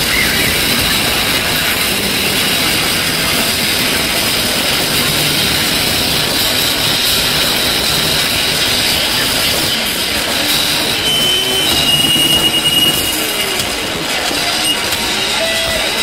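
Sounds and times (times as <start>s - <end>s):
loud distorted electric guitar: 0.0s - 16.0s.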